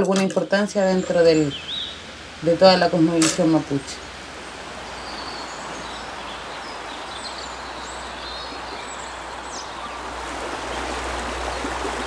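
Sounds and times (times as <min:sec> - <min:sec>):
small birds chirping: 0:00.0 - 0:12.0
stream rushing over stones: 0:00.0 - 0:12.0
steady hiss: 0:00.5 - 0:12.0.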